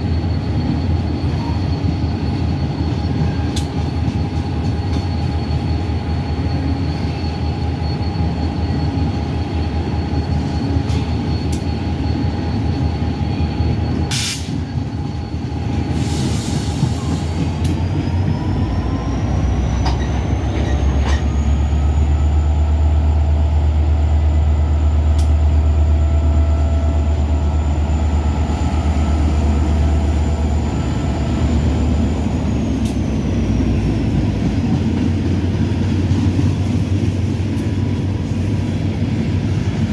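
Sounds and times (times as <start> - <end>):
freight train rumbling: 0.0 - 39.9.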